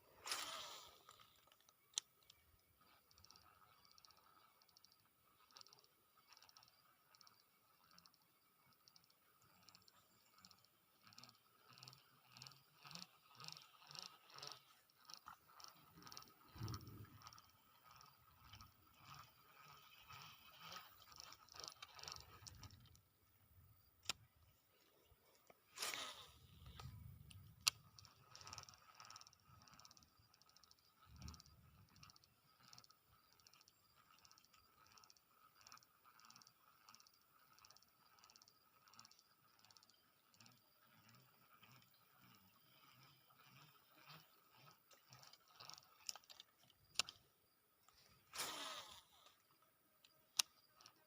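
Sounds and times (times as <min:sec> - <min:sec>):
insects chirping: 0:00.0 - 0:51.0
sharp clicks: 0:00.2 - 0:23.1, 0:23.9 - 0:42.4, 0:44.9 - 0:49.4, 0:50.0 - 0:51.0.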